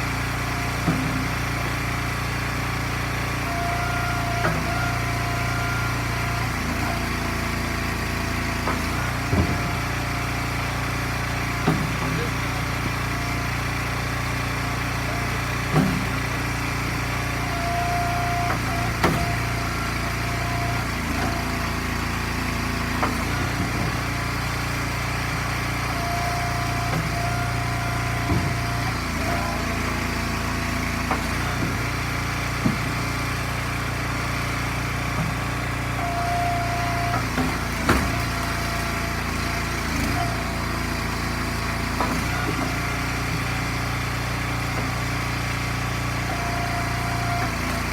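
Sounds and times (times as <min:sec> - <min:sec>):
gas engine running: 0:00.0 - 0:47.9
hydraulic ram whine: 0:00.0 - 0:47.9.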